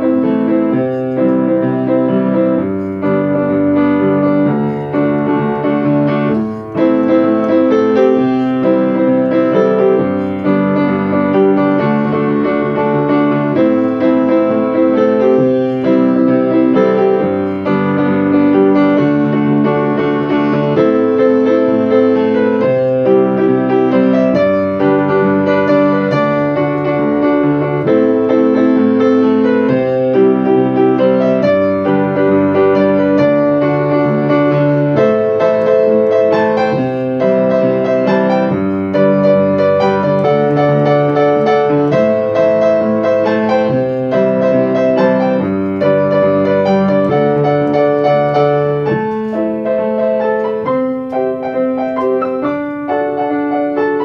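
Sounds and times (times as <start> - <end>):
piano chords and melody: 0.0 - 54.0.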